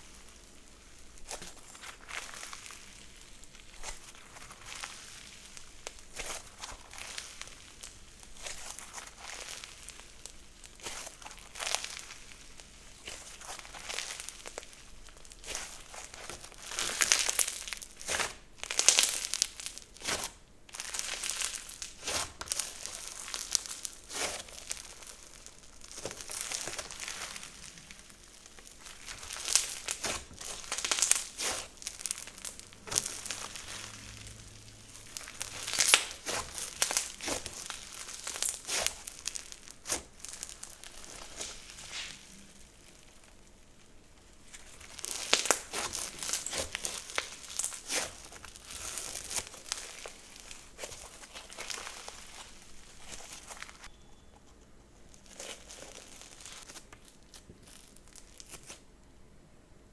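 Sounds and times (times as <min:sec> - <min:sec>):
slime being squished: 0:00.0 - 0:53.9, 0:55.1 - 0:58.8.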